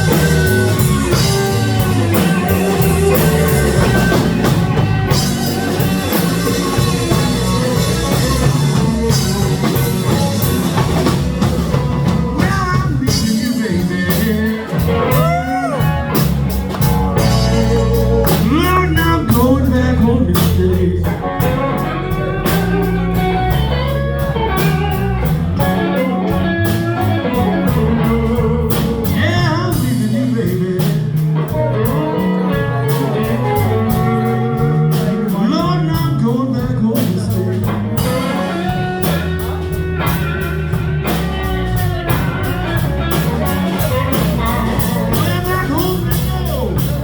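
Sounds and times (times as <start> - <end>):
bass line: 0.0 - 47.0
drums: 0.0 - 47.0
electric guitar lead: 0.0 - 47.0.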